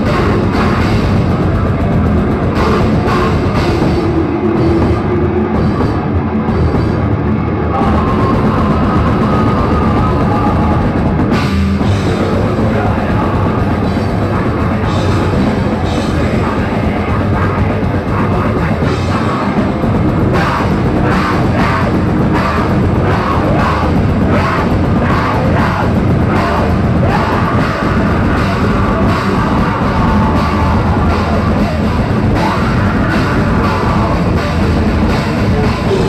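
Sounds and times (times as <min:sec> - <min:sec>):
drum kit with cymbals: 0:00.0 - 0:07.1, 0:07.8 - 0:36.0
distorted electric guitars: 0:00.0 - 0:36.0.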